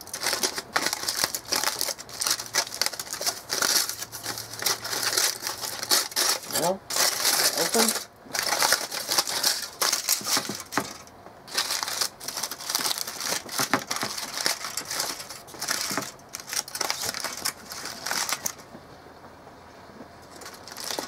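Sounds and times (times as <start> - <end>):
aluminium foil crinkling: 0.0 - 18.7, 20.2 - 21.0.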